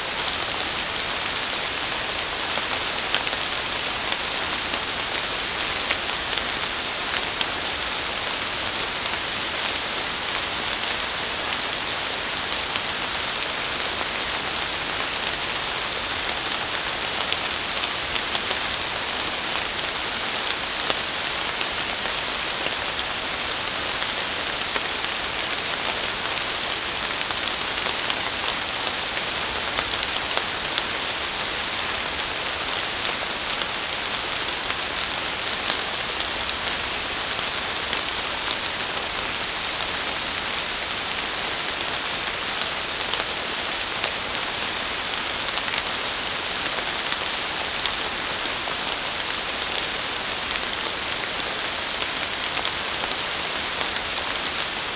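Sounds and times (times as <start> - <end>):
rain on leaves: 0.0 - 54.9.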